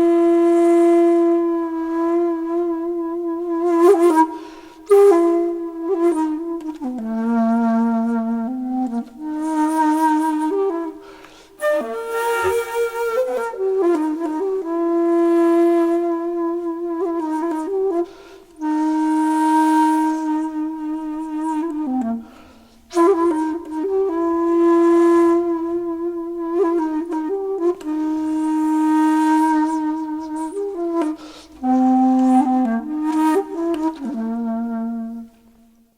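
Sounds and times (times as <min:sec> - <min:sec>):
slow solo flute melody: 0:00.0 - 0:35.9.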